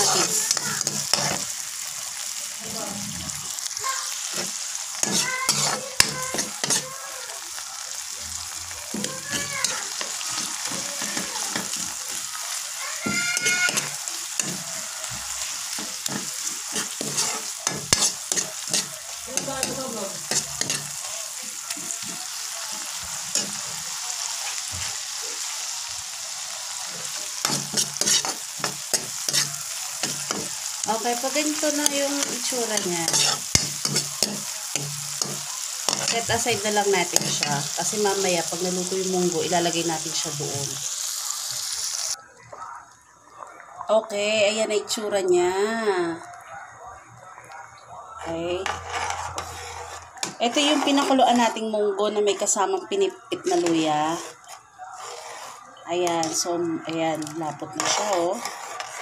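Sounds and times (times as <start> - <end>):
metal spoon scraping a pan: 0.0 - 1.6, 3.4 - 7.1, 8.9 - 25.6, 26.3 - 40.9, 48.2 - 59.0
vegetables sizzling in oil: 0.0 - 42.2, 48.2 - 59.0.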